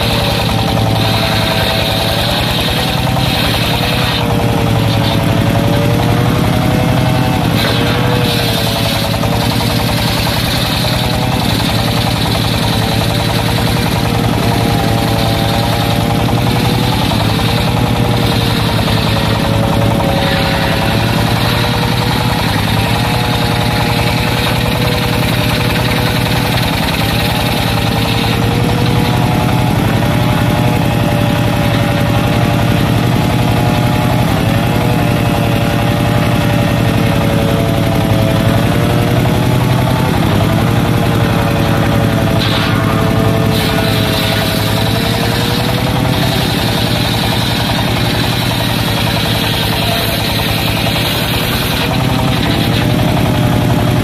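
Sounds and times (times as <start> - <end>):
circular sawmill ripping timber: 0.0 - 54.0.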